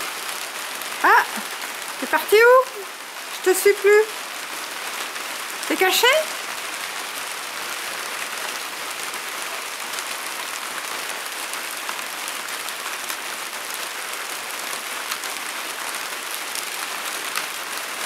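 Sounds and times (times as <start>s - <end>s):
rain falling on plants: 0.0s - 18.0s.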